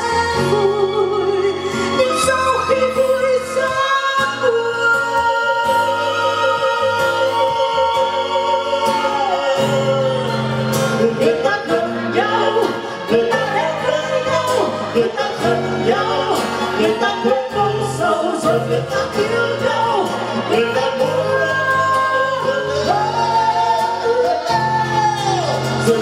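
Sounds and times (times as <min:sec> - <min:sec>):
live band playing: 0:00.0 - 0:26.0
male and female duet singing: 0:00.0 - 0:26.0.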